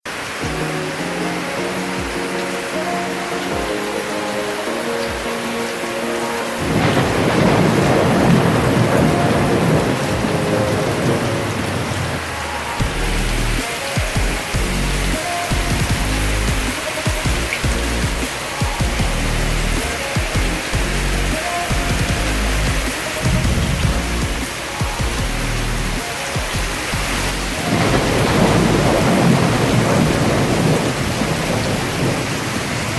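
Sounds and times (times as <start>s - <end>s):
heavy rain falling: 0.0s - 32.9s
thunder rumbling: 0.4s - 32.9s.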